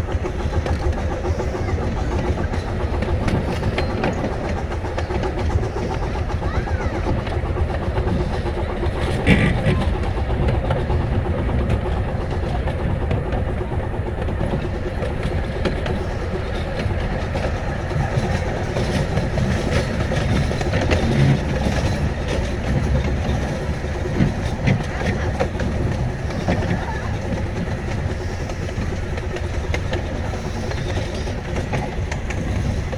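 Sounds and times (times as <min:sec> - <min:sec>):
train cars rumbling: 0:00.0 - 0:32.9
wheel clicks over rails: 0:00.0 - 0:32.9.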